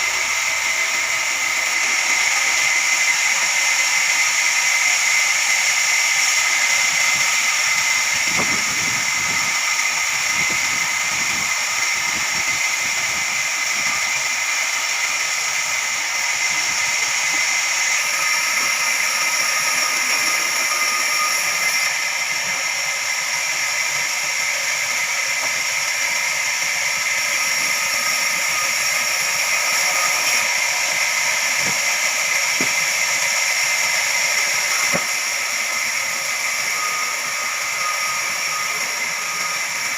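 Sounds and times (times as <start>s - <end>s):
band saw whining and sawing: 0.0s - 39.9s.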